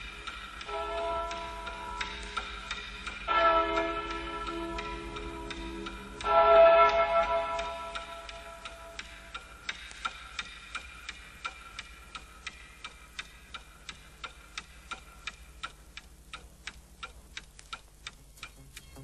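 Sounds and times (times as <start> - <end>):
clock ticking: 0.0 - 19.0.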